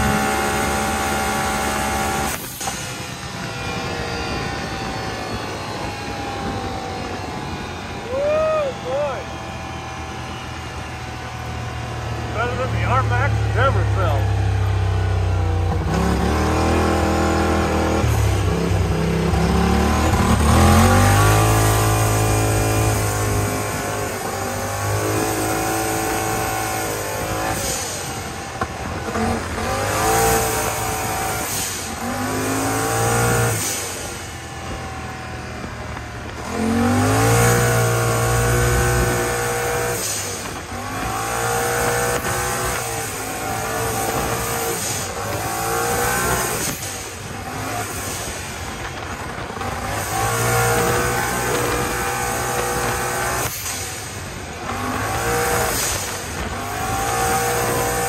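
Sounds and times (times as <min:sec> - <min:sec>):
engine under hard acceleration: 0:00.0 - 0:58.0.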